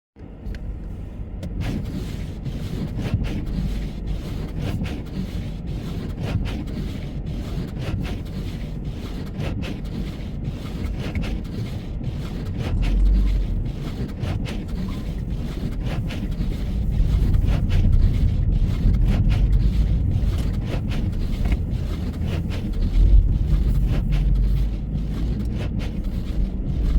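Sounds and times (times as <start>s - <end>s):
car driving low rumble: 0.2s - 26.9s.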